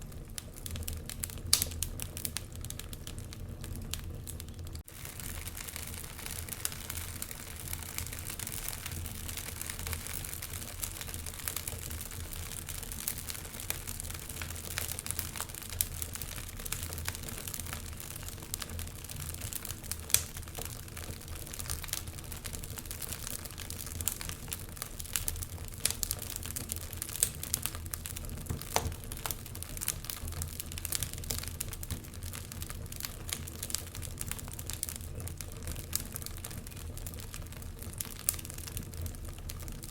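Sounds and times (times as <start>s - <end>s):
fireplace fire crackling: 0.0s - 39.9s
low rumble of flames: 0.0s - 39.9s.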